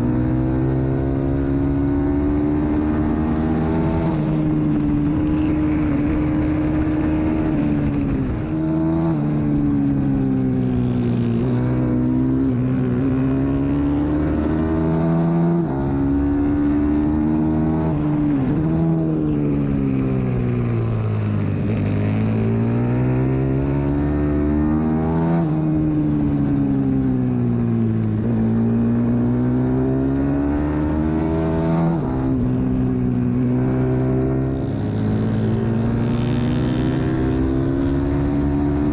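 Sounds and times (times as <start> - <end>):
motorbike engine accelerating: 0.0 - 38.9.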